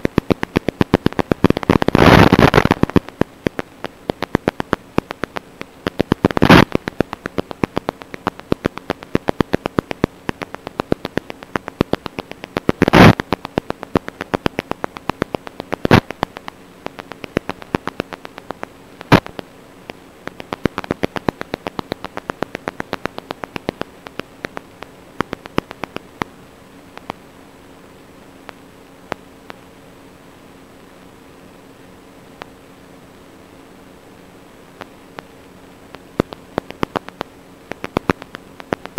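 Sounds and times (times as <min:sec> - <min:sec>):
crackling static: 0:00.0 - 0:38.9
faint steady hum: 0:00.0 - 0:38.9.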